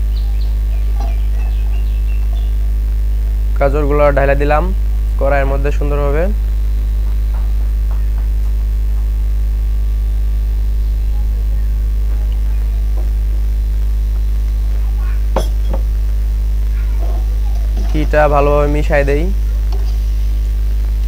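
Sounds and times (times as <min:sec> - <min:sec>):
loud low hum: 0:00.0 - 0:21.0.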